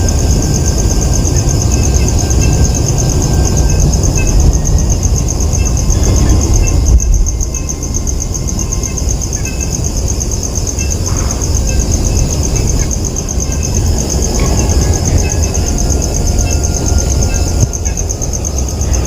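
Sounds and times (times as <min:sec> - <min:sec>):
heavy low rumble: 0:00.0 - 0:19.0
insects trilling: 0:00.0 - 0:19.0.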